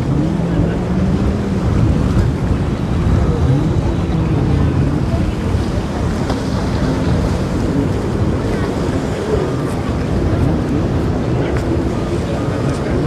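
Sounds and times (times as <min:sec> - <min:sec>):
water washing: 0:00.0 - 0:13.0
wind buffeting microphone: 0:00.0 - 0:13.0
yacht engines rumbling: 0:00.0 - 0:13.0.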